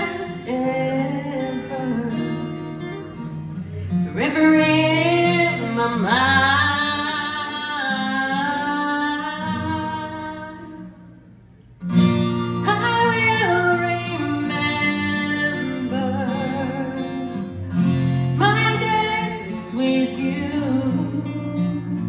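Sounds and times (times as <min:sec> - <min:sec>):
woman singing: 0:00.0 - 0:03.0, 0:03.9 - 0:11.1, 0:12.6 - 0:17.6, 0:18.2 - 0:22.0
acoustic guitar: 0:00.0 - 0:22.0.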